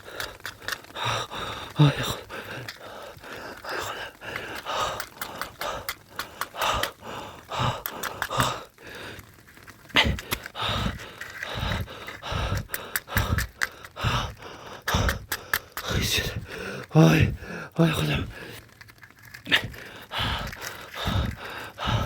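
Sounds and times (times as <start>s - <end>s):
person gasping and panting: 0.0s - 22.0s
rustling of handling: 0.0s - 22.0s.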